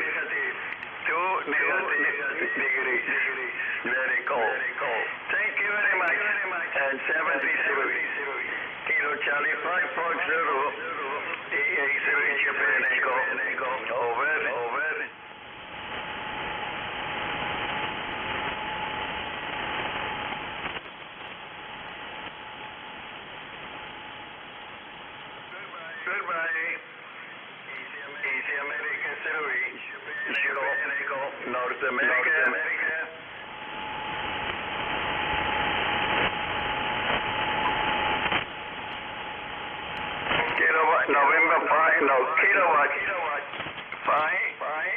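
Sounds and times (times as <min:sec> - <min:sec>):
radio band noise hiss: 0:00.0 - 0:44.9
static crackles: 0:00.0 - 0:44.9.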